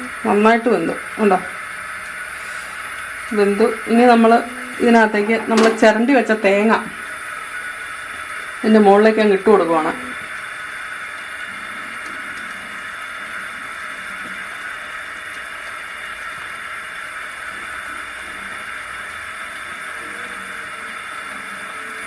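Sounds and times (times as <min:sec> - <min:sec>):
pot hissing on stove: 0:00.0 - 0:22.0.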